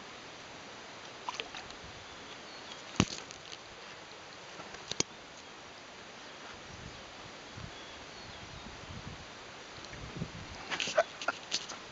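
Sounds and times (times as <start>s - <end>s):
outdoor background hiss: 0.0s - 11.9s.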